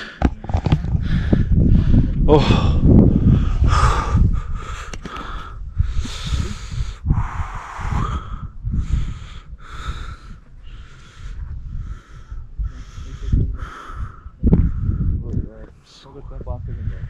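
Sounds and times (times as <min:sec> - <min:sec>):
wind rumbling on microphone: 0:00.0 - 0:17.0
man breathing: 0:01.0 - 0:15.2.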